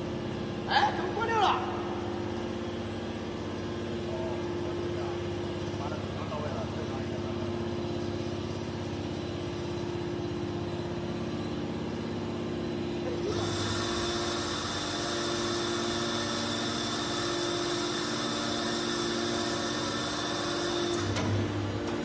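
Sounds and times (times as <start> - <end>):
hydraulic power unit whining: 0.0 - 22.0.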